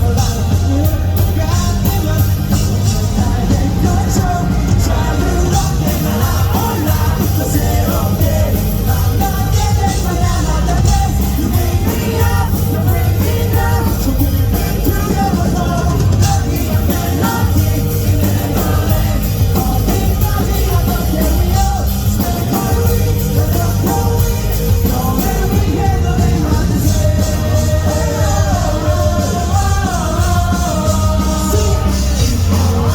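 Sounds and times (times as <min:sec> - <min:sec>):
person singing: 0:00.0 - 0:32.9
rock band playing: 0:00.0 - 0:32.9.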